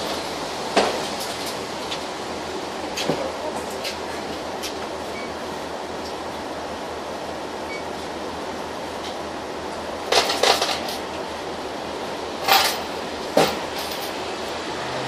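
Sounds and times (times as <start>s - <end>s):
bus engine and ventilation hum: 0.0s - 15.0s.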